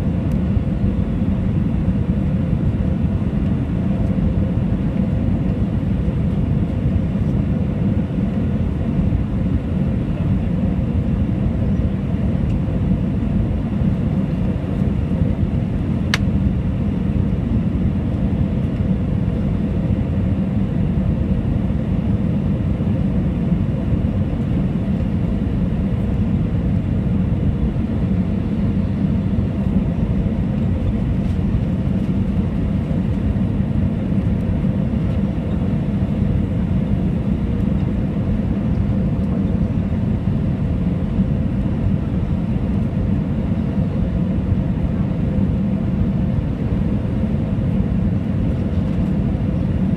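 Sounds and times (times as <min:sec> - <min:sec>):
airplane engines rumbling in cabin: 0:00.0 - 0:49.9.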